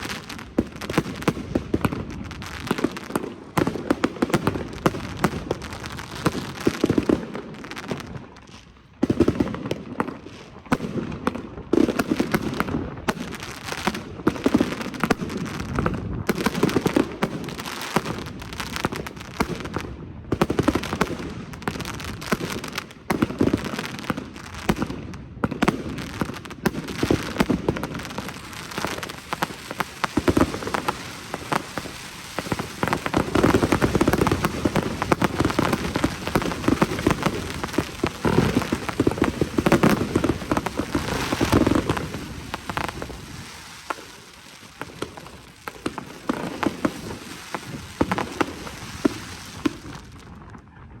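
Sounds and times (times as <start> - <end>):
firework crackling: 0.0 - 50.6
firework bangs: 0.0 - 51.0.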